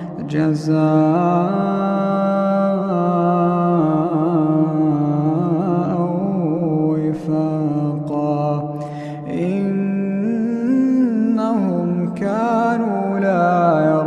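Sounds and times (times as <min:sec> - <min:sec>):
man chanting a recitation: 0:00.0 - 0:14.0.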